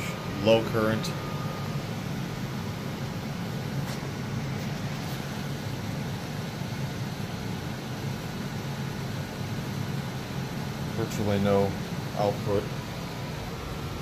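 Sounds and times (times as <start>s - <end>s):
machine hum and hiss: 0.0s - 14.0s.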